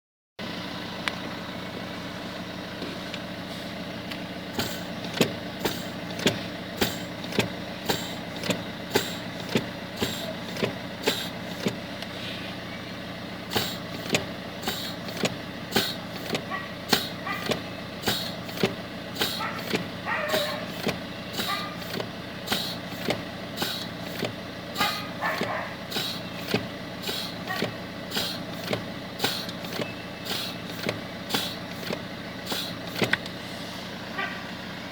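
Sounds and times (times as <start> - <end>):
car engine idling: 0.4 - 34.9
short hisses from brake pedal: 3.4 - 3.8, 4.5 - 12.6, 13.5 - 34.0.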